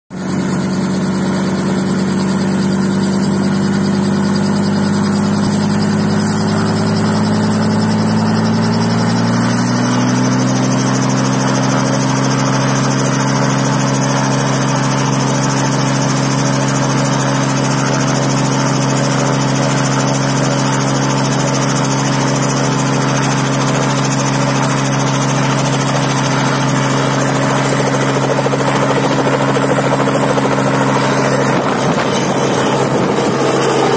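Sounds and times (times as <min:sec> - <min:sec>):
helicopter hum: 0:00.1 - 0:33.9.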